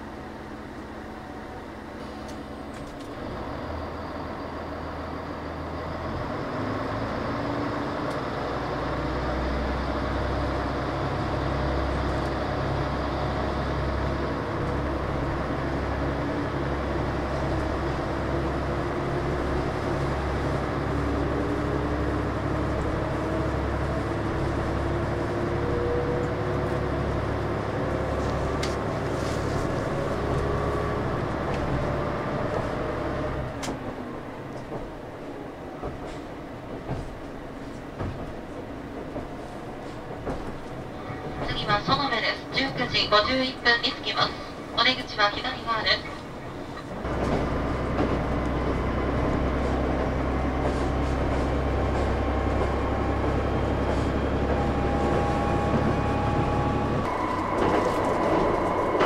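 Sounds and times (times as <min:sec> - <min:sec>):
train diesel engine drone: 0:00.0 - 0:59.0.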